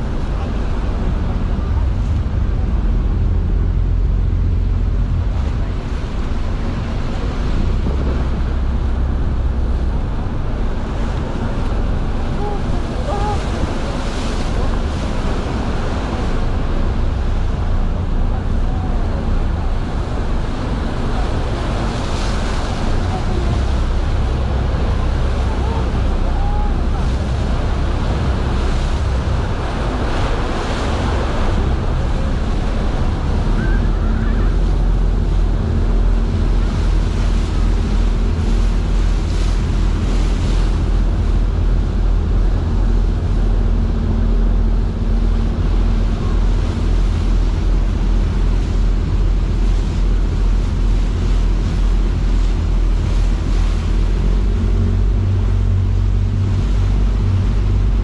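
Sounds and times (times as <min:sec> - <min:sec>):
ship engine humming: 0:00.0 - 0:58.0
turbulent water churning: 0:00.0 - 0:58.0
wind buffeting microphone: 0:00.0 - 0:58.0.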